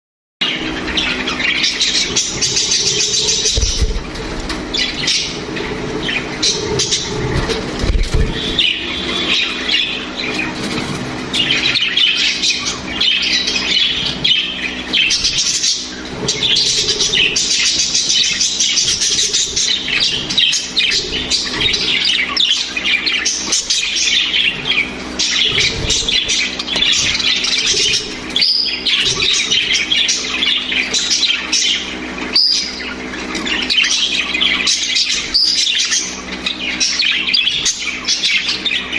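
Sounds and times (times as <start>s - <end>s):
bird squawk: 0.4s - 38.9s
budgerigars chirping: 0.4s - 38.9s
steady low hum: 0.4s - 38.9s.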